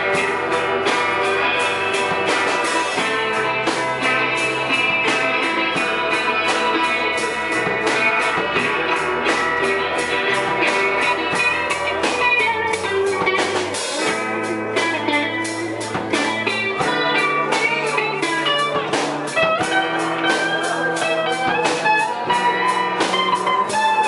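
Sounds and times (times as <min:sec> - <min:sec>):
drum kit beat: 0:00.0 - 0:24.0
electric bass: 0:00.0 - 0:24.0
electric guitars: 0:00.0 - 0:24.0.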